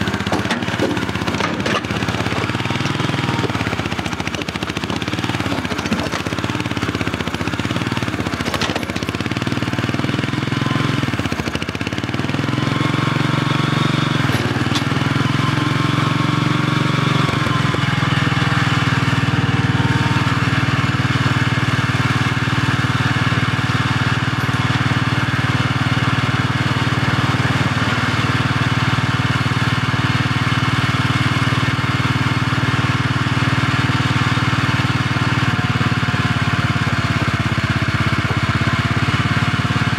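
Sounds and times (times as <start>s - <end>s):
loader engine running: 0.0s - 39.9s.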